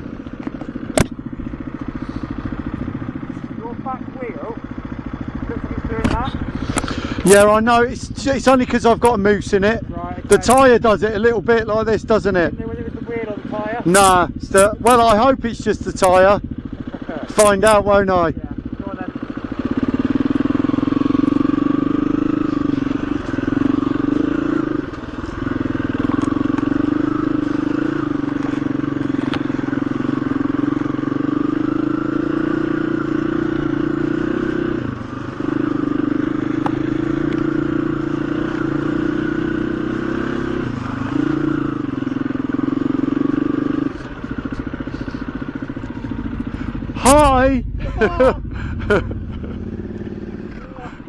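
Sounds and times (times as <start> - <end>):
dirt bike engine running: 0.0 - 51.0.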